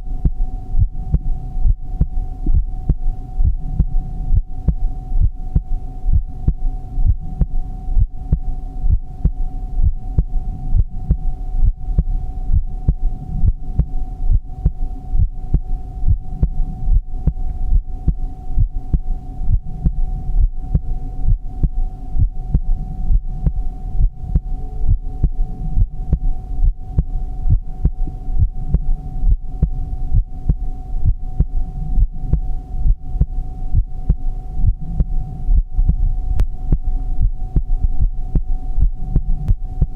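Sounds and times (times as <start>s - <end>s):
constant low hum: 0.0s - 39.9s
heartbeat lub-dub beats: 0.0s - 39.9s.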